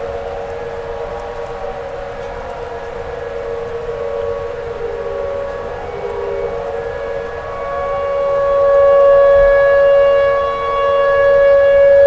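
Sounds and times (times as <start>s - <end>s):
tornado warning siren wail: 0.0s - 12.0s.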